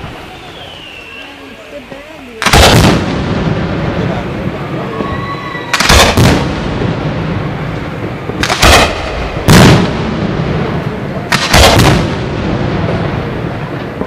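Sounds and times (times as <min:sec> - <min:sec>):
firework shells bursting: 0:02.2 - 0:14.0.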